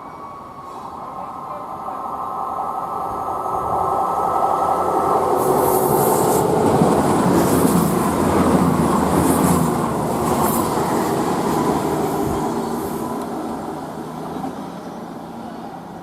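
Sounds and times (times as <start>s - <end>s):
steady drone: 0.0s - 13.7s
train wheels rumbling on rails: 1.6s - 16.0s.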